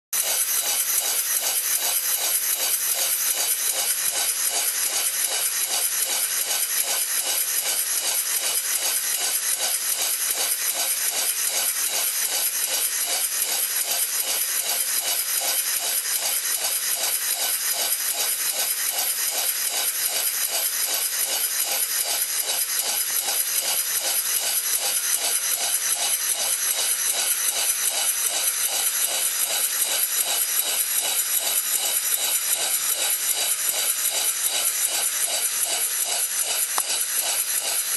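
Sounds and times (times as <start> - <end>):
model steam engine running: 0.2 - 37.9.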